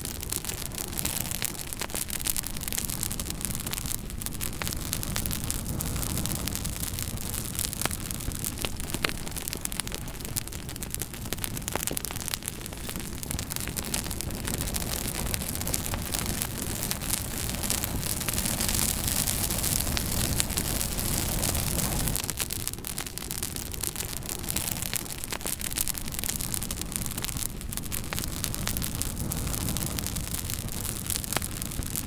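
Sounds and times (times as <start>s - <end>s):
fire crackling in fireplace: 0.0s - 32.0s.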